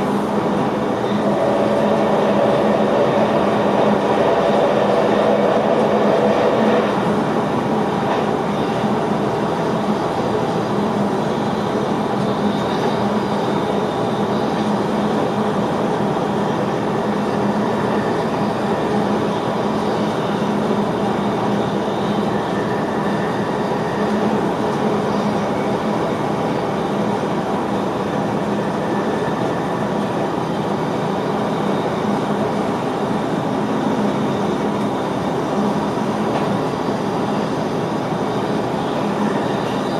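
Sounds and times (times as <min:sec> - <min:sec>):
constant hum: 0:00.0 - 0:39.9
train wheels rumbling on rail: 0:00.0 - 0:39.9.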